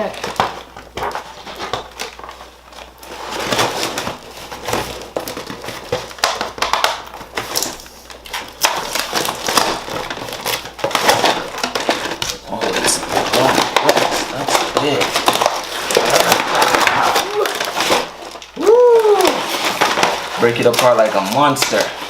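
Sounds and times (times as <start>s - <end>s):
packaging crinkling and rustling: 0.0s - 22.0s.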